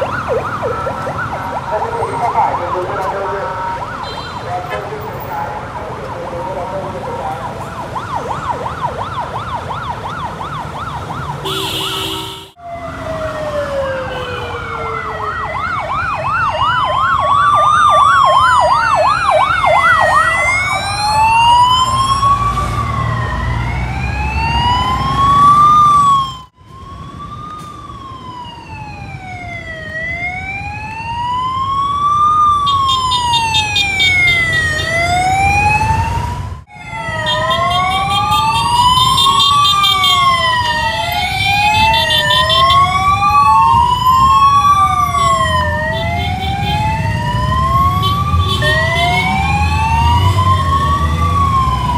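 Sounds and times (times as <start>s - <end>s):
fast warbling siren yelp: 0.0s - 51.9s
siren wailing: 0.0s - 51.9s
traffic rumble: 0.0s - 51.9s.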